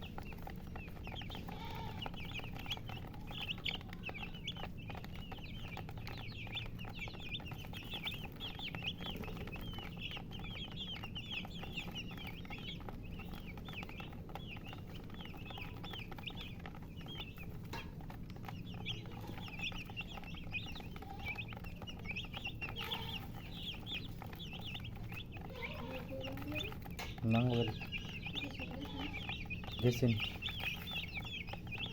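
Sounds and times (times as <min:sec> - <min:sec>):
baby chicks peeping: 0:00.0 - 0:31.9
faint low hum: 0:00.0 - 0:31.9.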